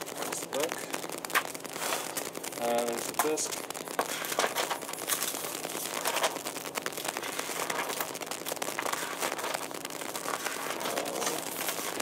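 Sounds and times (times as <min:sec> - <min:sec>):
plastic and paper crinkling: 0:00.0 - 0:12.0.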